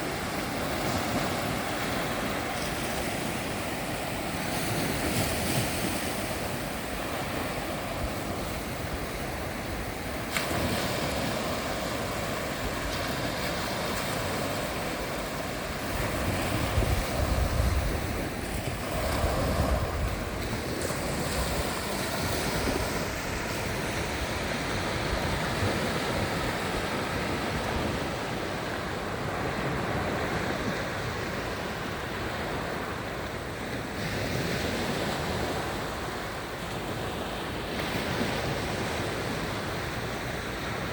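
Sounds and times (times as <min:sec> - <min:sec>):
wind buffeting microphone: 0:00.0 - 0:33.2
sea waves washing onto shore: 0:00.0 - 0:40.9.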